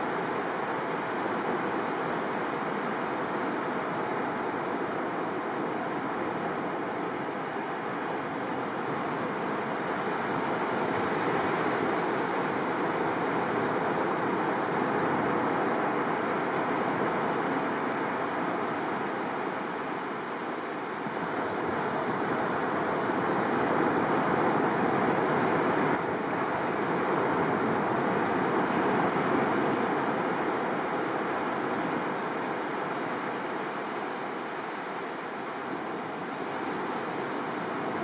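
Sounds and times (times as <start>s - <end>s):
waves breaking on beach: 0.0s - 38.0s.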